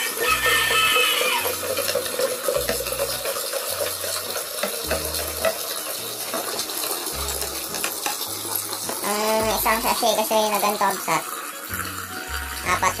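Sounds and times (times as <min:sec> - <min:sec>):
water from hose splashing into jar: 0:00.0 - 0:13.0.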